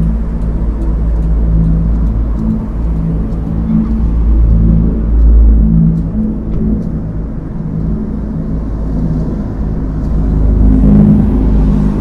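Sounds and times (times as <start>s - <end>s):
turboprop airliner flying overhead: 0.0s - 12.0s.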